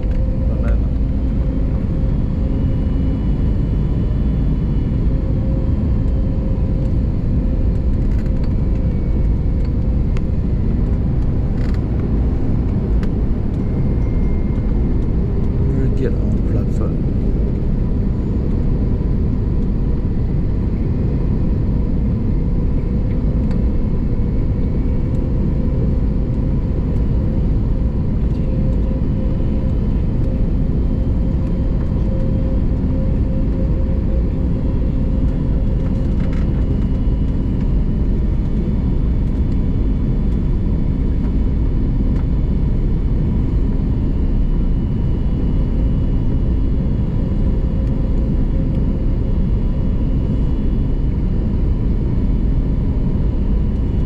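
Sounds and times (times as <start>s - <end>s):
airplane engines rumbling: 0.0s - 54.0s
faint constant hum: 0.0s - 54.0s.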